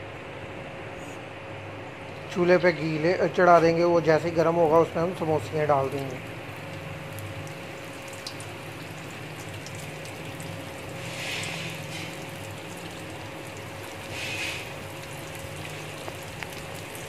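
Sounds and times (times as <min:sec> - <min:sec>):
deep-frying sizzle with crackles: 0:02.4 - 0:17.0.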